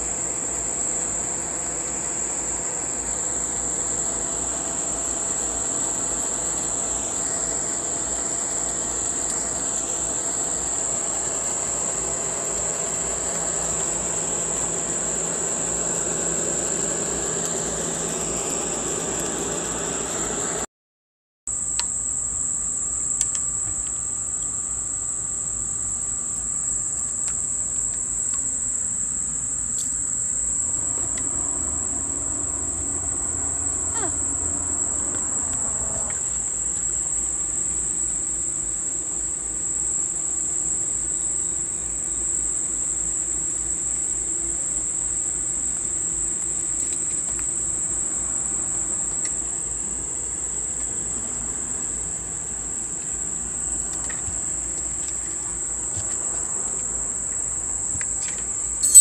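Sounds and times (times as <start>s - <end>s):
insect chorus drone: 0.0s - 20.6s, 21.5s - 59.0s.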